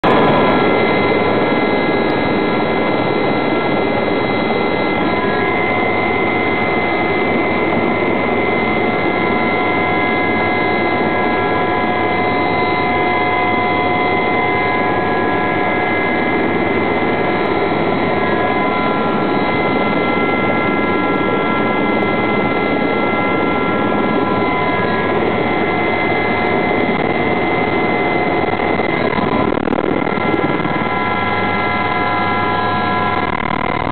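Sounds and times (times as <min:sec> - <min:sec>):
helicopter turbine whine: 0:00.0 - 0:33.9
rotor and airflow rush: 0:00.0 - 0:33.9.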